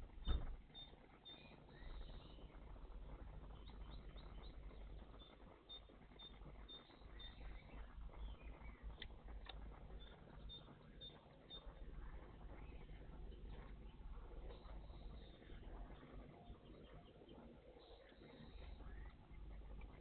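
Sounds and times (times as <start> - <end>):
songbird chirping faintly: 0.0 - 20.0.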